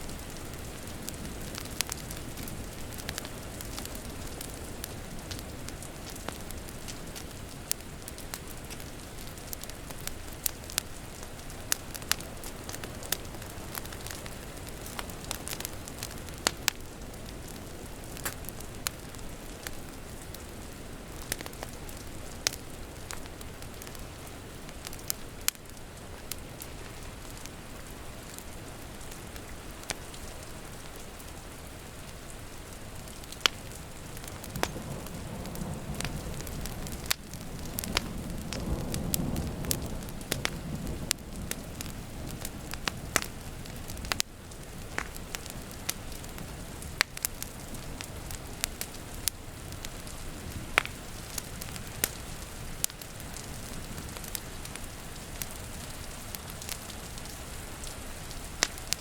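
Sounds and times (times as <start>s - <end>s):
steady rain noise: 0.0s - 59.0s
wood fire crackling: 0.0s - 59.0s.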